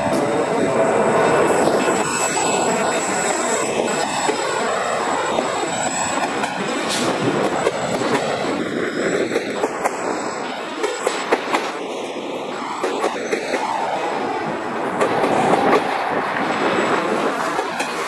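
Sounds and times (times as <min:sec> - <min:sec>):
diesel locomotives passing: 0:00.0 - 0:18.0.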